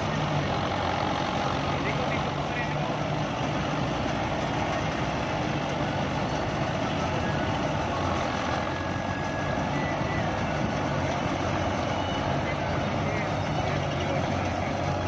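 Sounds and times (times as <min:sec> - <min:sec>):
tractor engine: 0:00.0 - 0:15.0.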